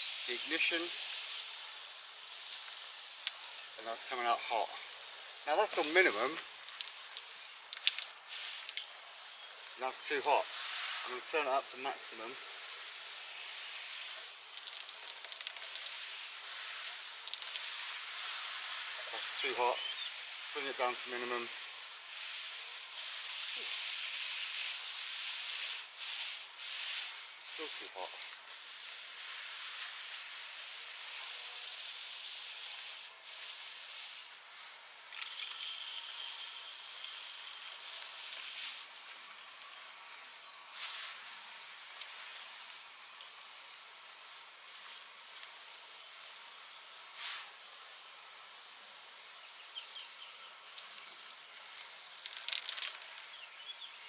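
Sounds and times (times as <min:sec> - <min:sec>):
high insect trill: 0:00.0 - 0:54.0
shower spraying water: 0:00.0 - 0:54.0
steady hiss: 0:00.0 - 0:54.0.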